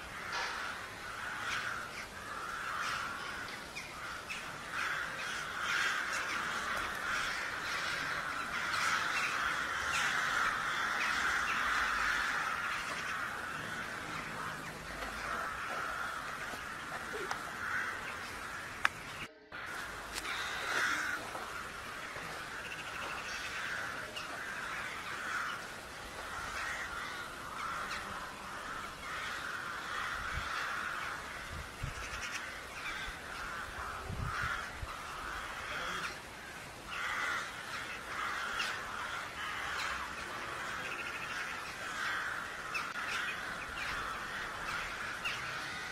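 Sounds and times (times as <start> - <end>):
birds with harsh calls: 0.0 - 45.9.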